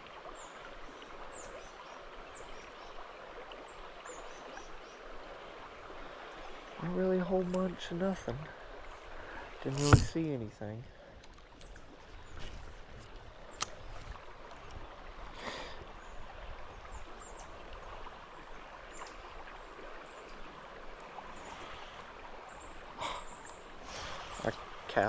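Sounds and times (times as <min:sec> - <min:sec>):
creek water flowing: 0:00.0 - 0:25.0.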